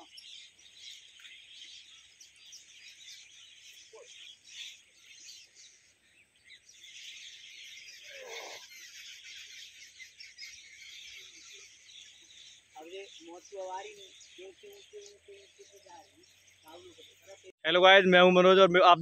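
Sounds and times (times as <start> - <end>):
lower bird call: 0.0 - 17.5
birds chirping and twittering: 0.0 - 19.0.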